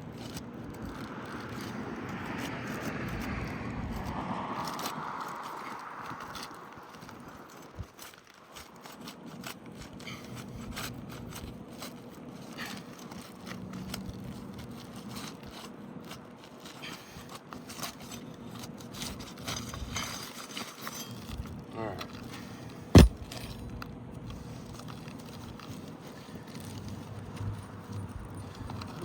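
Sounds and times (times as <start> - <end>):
scraping and clicking on shingles: 0.0 - 29.0.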